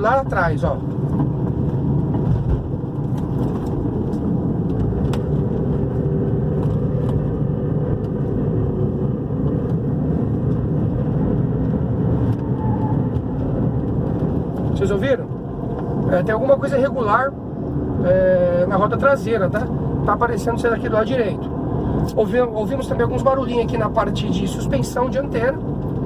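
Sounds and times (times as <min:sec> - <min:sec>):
car cabin road noise: 0:00.0 - 0:26.0.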